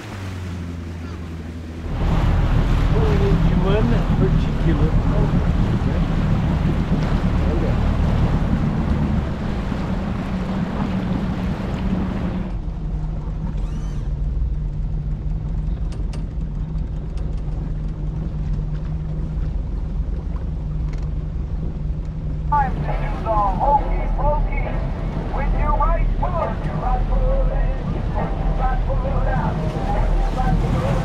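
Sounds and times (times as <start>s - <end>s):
boat engine running: 0.0s - 31.0s
rush of wind and water: 0.0s - 31.0s.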